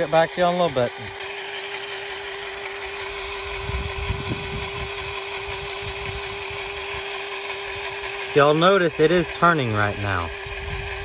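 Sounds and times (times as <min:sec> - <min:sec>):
grease gun motor whine: 0:00.0 - 0:11.0.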